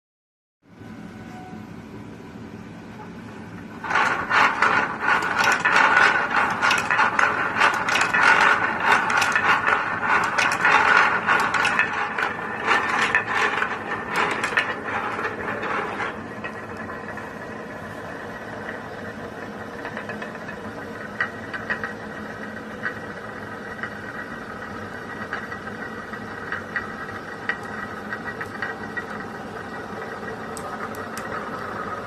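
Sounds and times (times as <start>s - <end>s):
machine mechanism clattering: 3.8s - 32.0s.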